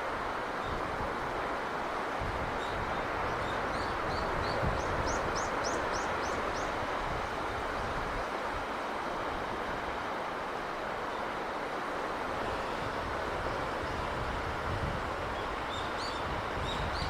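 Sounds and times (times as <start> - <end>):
sea breeze: 0.0 - 17.0.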